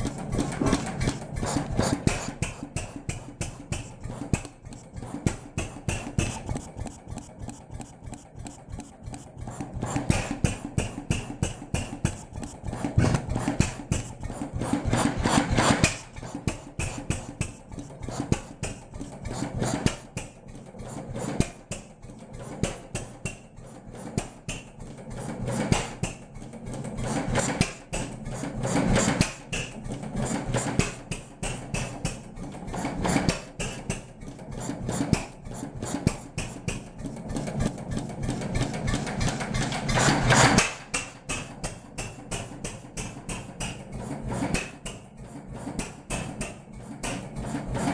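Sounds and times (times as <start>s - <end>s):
stationary engine clattering: 0.0s - 47.9s.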